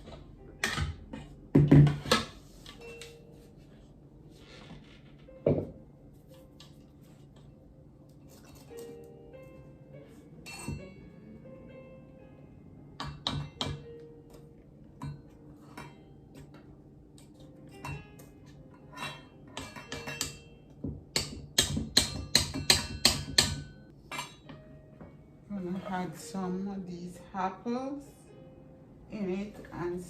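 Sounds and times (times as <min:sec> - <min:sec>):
soft music: 0:00.0 - 0:30.0.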